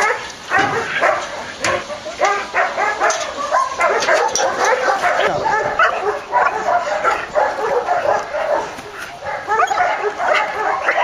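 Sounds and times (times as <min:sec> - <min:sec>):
dog yelping and whining: 0:00.8 - 0:11.0.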